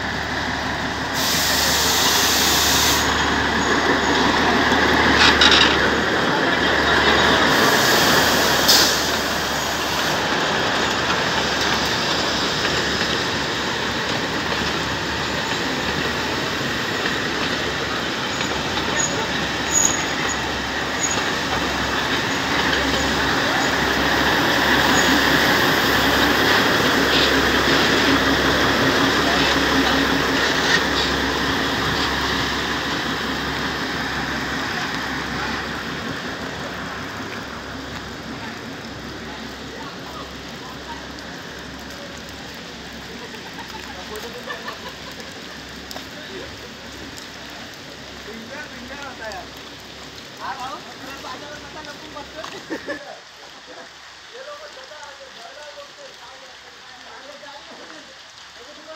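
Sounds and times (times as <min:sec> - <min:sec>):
diesel locomotive engine: 0:00.0 - 0:58.9
train coaches rumbling over rails: 0:00.0 - 0:58.9.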